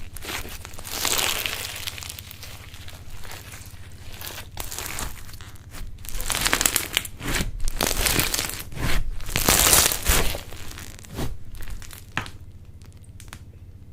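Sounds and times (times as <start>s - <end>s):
slime crackling and popping: 0.0s - 13.5s.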